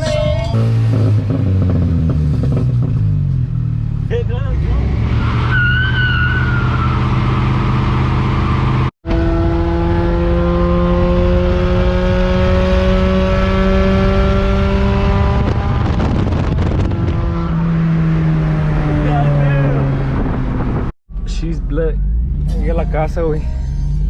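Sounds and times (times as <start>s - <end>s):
car engine revving high: 0.0s - 3.2s, 4.5s - 20.9s.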